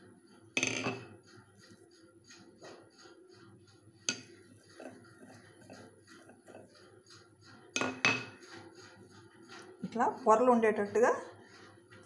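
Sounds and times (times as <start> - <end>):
rolling pin rubbing dough: 0.0 - 12.0.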